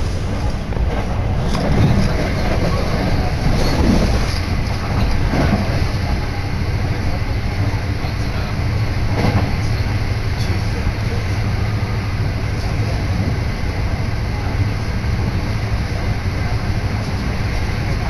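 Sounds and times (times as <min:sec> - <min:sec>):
electric train running at speed: 0:00.0 - 0:18.0.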